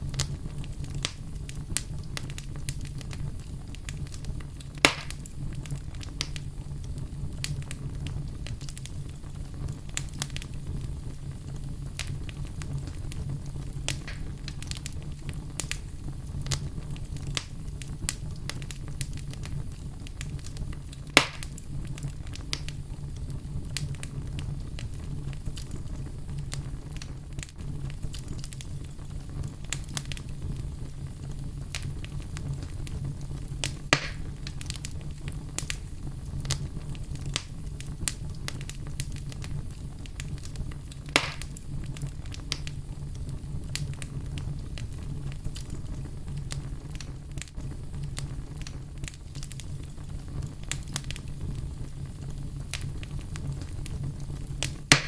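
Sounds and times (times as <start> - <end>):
fire crackling and popping: 0.0 - 55.0
low rumble of fire: 0.0 - 55.0.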